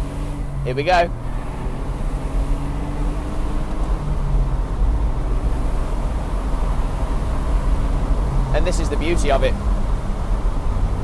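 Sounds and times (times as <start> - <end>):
car engine accelerating: 0.0 - 11.0
road and wind noise: 0.0 - 11.0.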